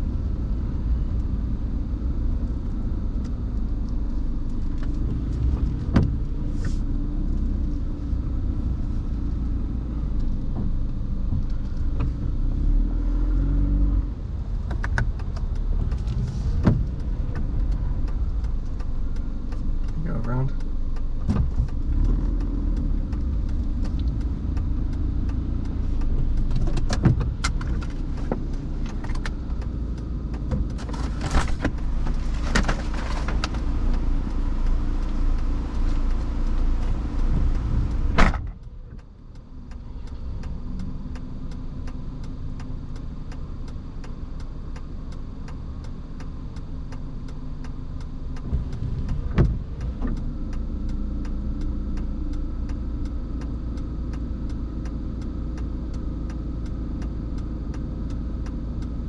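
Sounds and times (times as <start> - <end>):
road and engine noise: 0.0 - 59.0
sharp clicks and knocks: 2.4 - 6.5, 14.2 - 59.0.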